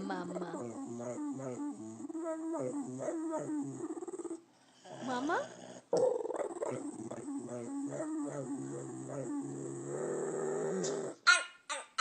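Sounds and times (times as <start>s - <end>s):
dog growly vocalising: 0.0s - 11.2s.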